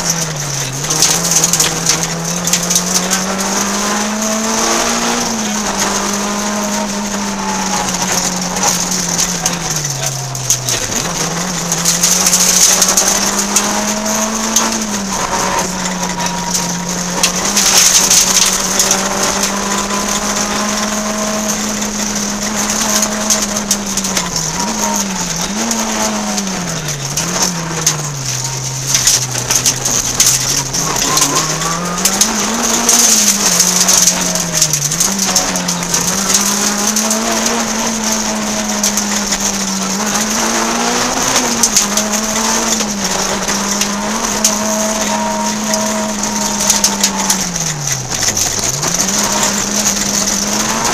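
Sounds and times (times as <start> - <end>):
car engine revving: 0.0 - 50.9
road and tyre noise: 0.0 - 50.9.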